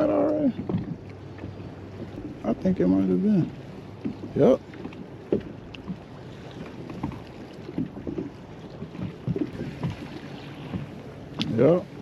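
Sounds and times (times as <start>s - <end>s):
small knocks and splashes: 0.0s - 11.9s
water lapping: 0.0s - 12.0s
wind buffeting microphone: 0.0s - 12.0s.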